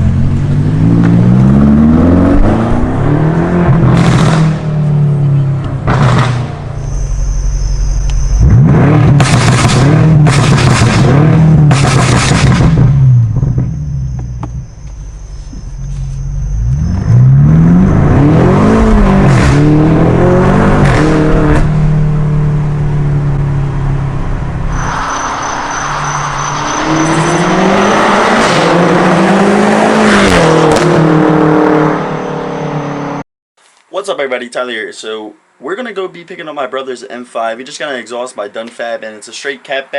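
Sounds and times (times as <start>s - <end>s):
car engine accelerating hard: 0.0s - 33.2s.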